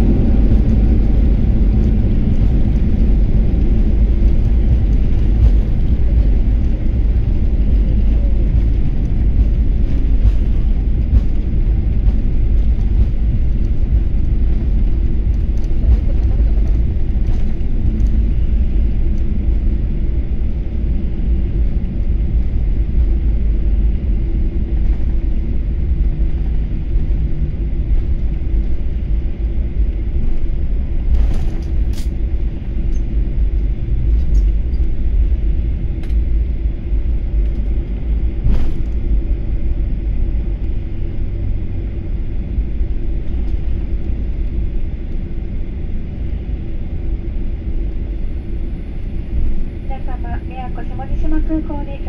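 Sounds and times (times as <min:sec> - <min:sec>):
airliner engines and wheels rumbling: 0:00.0 - 0:52.0.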